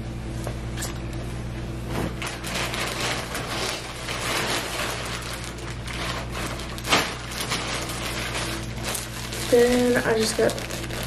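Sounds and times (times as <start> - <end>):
plastic bag crinkling: 2.1 - 11.0.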